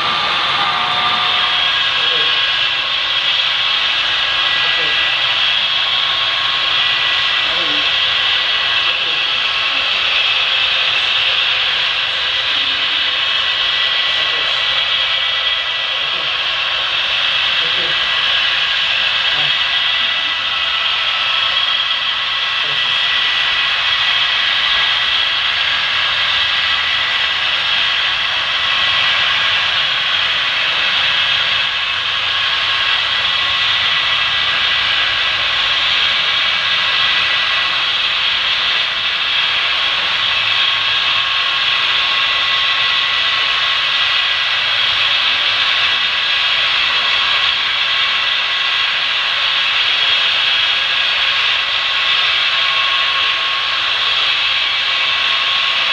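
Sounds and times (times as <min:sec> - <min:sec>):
model trains whirring on track: 0:00.0 - 0:55.9.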